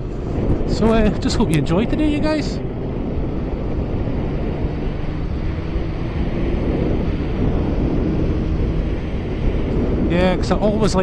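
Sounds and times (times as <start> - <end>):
motorcycle engine cruising: 0.0 - 11.0
wind buffeting microphone: 0.0 - 11.0.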